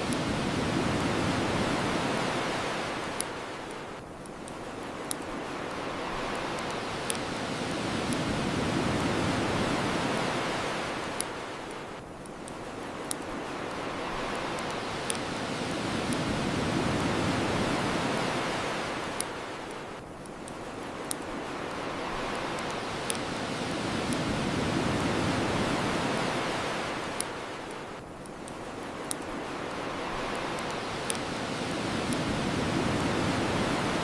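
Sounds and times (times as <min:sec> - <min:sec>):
ocean waves washing onto shore: 0:00.0 - 0:34.0.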